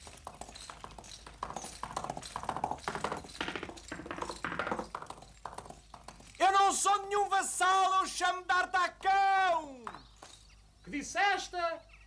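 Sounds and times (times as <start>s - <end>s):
cartoon horse hooves clip-clopping: 0.0s - 10.5s.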